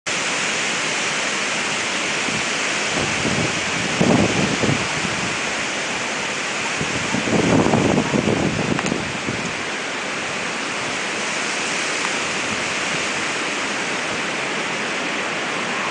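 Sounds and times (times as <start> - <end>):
hurricane wind and rain: 0.1 - 15.9
wind gusts buffeting microphone: 1.6 - 15.9.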